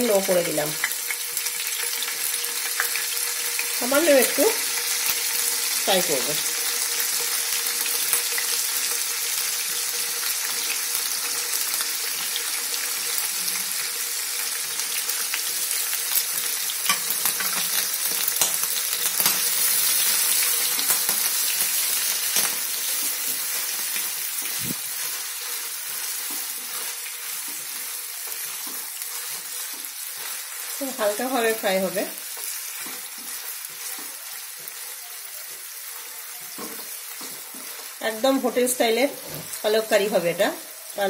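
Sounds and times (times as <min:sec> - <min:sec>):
food sizzling in oil: 0:00.0 - 0:41.0.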